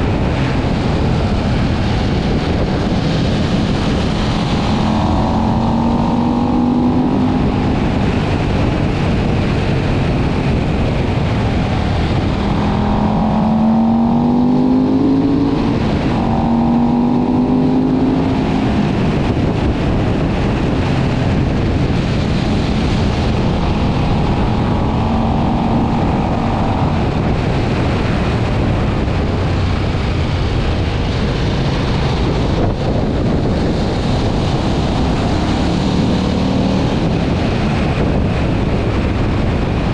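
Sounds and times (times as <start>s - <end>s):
motorcycle engine accelerating: 0.0s - 39.9s
wind noise: 0.0s - 39.9s.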